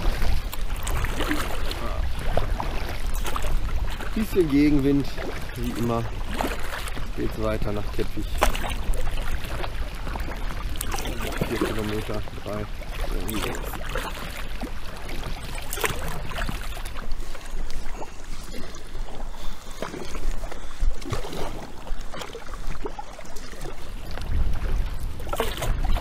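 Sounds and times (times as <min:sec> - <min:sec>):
wind rumble on microphone: 0:00.0 - 0:19.3, 0:19.9 - 0:26.0
kayak paddle strokes splashing: 0:00.0 - 0:26.0.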